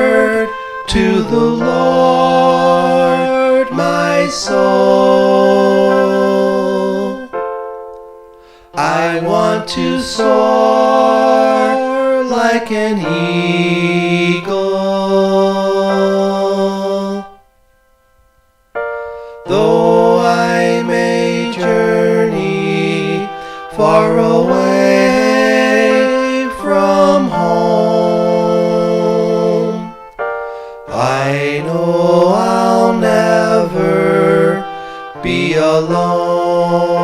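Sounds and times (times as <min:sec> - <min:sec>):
sustained keyboard chords: 0:00.0 - 0:37.0.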